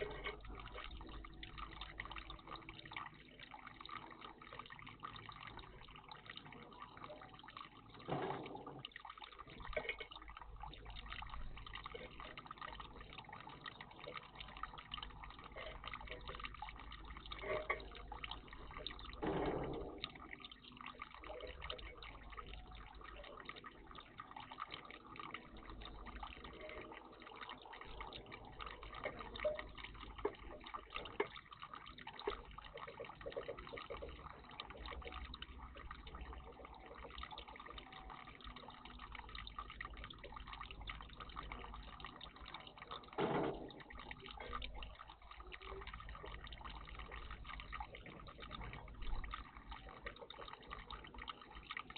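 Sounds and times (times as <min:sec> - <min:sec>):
water dripping: 0:00.0 - 0:51.9
water splashing in bird bath: 0:00.0 - 0:51.9.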